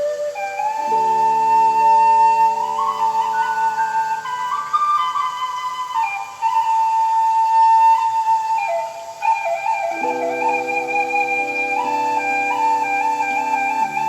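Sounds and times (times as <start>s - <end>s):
bamboo flute melody: 0.0s - 14.0s.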